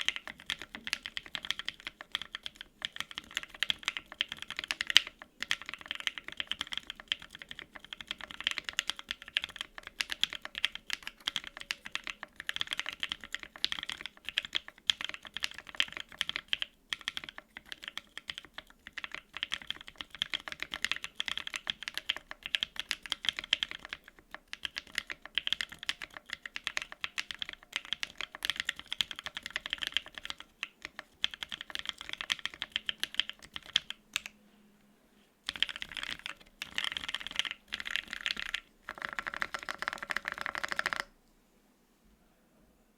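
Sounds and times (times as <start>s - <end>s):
fast typing on mechanical keyboard: 0.0s - 34.3s, 35.5s - 41.1s.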